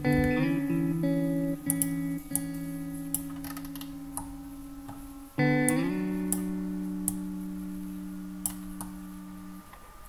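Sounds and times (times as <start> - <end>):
guitar-like chords music: 0.0 - 10.0.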